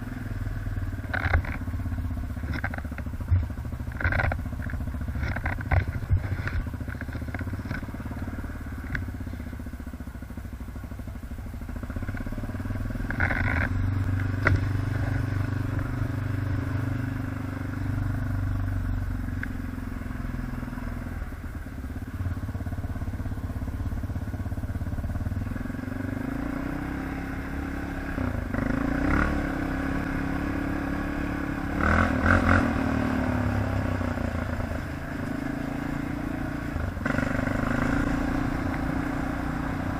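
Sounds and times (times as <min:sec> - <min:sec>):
quad bike engine revving: 0:00.0 - 0:09.5, 0:11.6 - 0:39.9.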